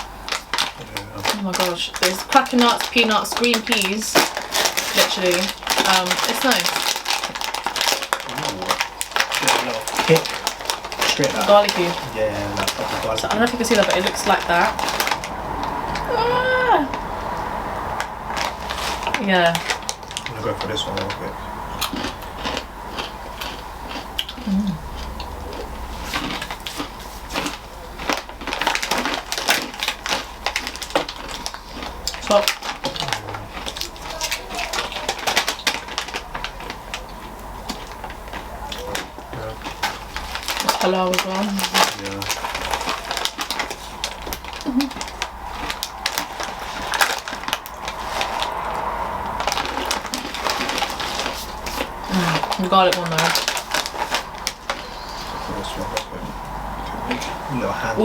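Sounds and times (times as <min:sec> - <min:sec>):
crunchy snacks being chewed: 0:00.0 - 0:58.0.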